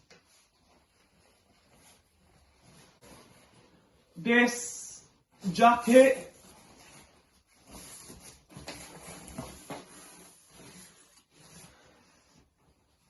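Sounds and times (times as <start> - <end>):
jacket rustling: 0.0 - 13.0.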